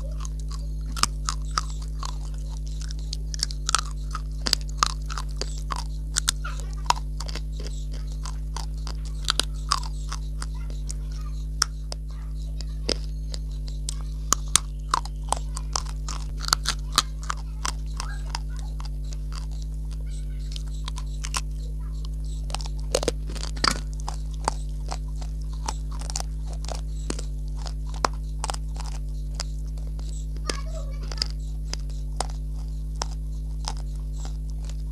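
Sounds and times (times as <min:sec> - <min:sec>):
chewing crunchy clay: 0:00.0 - 0:34.9
low hum: 0:00.0 - 0:34.9.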